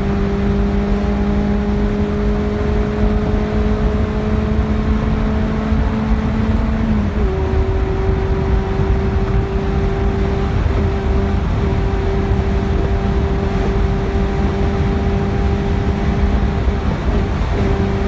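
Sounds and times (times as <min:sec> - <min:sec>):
car engine running hard: 0:00.0 - 0:18.0
road and wind rumble: 0:00.0 - 0:18.0.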